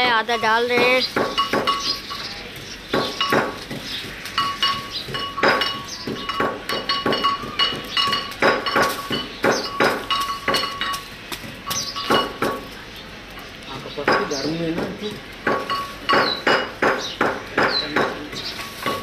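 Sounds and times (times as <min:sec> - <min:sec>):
sharp metallic clinks: 0:00.0 - 0:12.7, 0:15.4 - 0:19.0.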